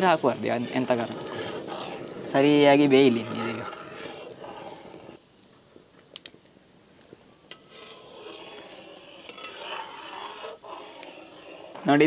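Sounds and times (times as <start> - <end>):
ladle stirring boiling rice: 0.0 - 5.2, 7.0 - 12.0
faint hiss: 0.0 - 12.0.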